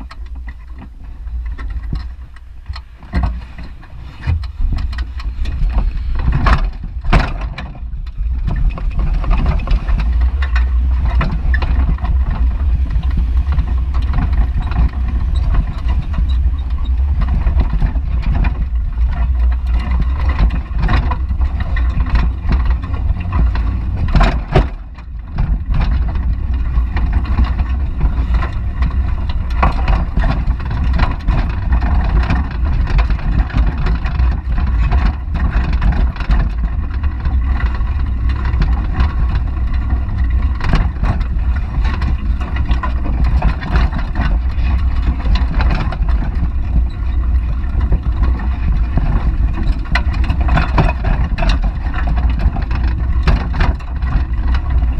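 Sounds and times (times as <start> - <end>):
bicycle clicks and rattles: 0.0 - 54.9
wind rumbling on microphone: 0.0 - 54.9.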